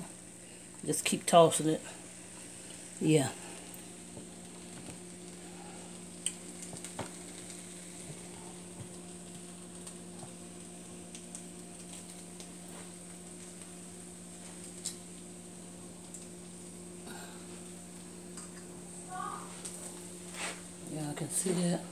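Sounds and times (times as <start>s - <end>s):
vegetables sizzling in a wok: 0.0s - 20.8s.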